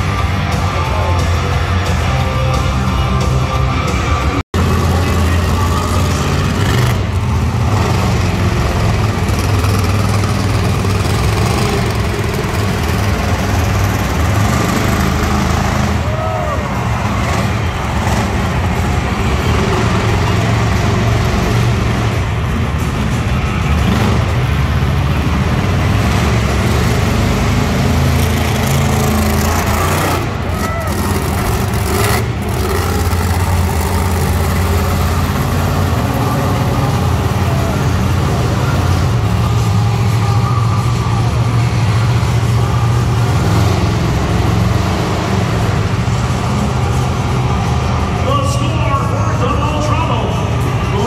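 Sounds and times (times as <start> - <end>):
arena noise: 0.0 - 51.0
monster truck engines rumbling: 0.0 - 51.0.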